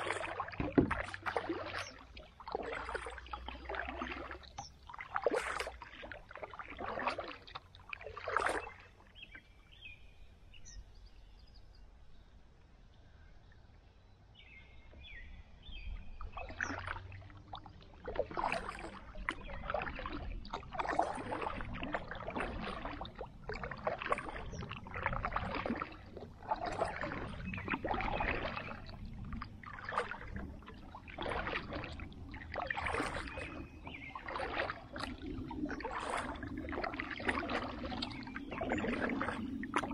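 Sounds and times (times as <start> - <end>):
paddle strokes in water: 0.0 - 11.5, 14.4 - 39.9.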